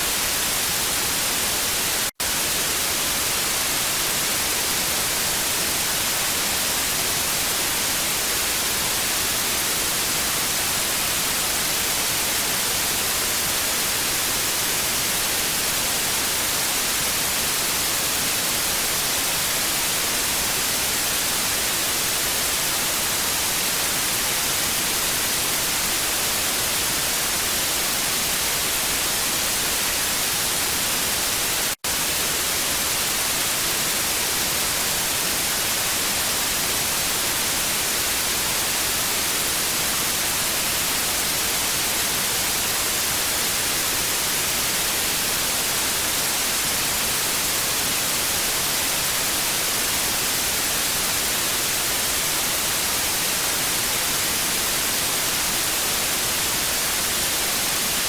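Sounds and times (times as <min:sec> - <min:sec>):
tv static hiss: 0:00.0 - 0:58.0.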